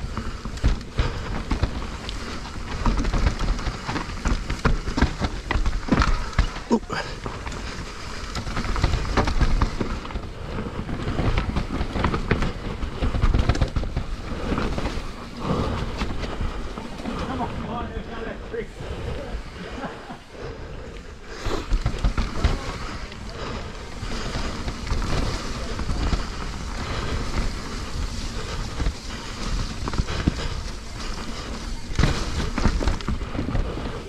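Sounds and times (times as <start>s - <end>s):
bike rattling over bumps: 0.0s - 34.0s
bike tyres rumbling on dirt: 0.0s - 34.0s.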